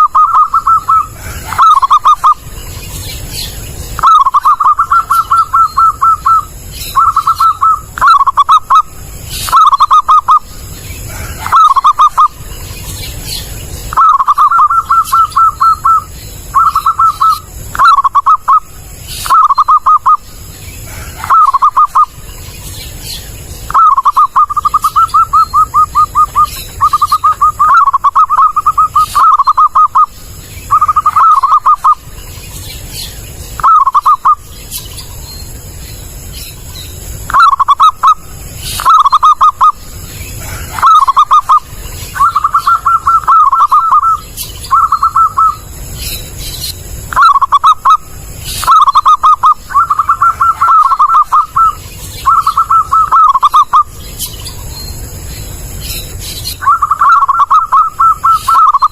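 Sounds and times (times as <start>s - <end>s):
dove cooing: 0.0s - 2.5s, 3.2s - 22.2s, 22.9s - 32.2s, 37.3s - 45.8s, 47.0s - 48.0s, 48.6s - 54.0s, 56.5s - 58.9s.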